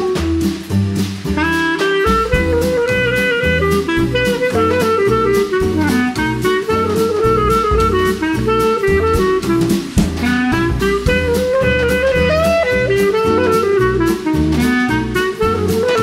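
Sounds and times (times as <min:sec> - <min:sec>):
upbeat jazz music: 0:00.0 - 0:16.0.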